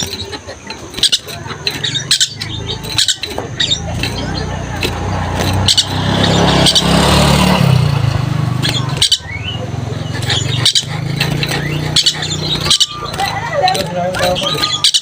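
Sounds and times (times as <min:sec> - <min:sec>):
bird giving sharp calls: 0:00.0 - 0:15.0
engine humming: 0:00.0 - 0:15.0.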